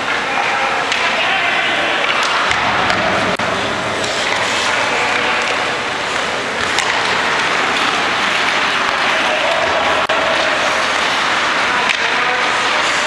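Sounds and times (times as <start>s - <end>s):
echoing rink noise: 0.0s - 13.0s.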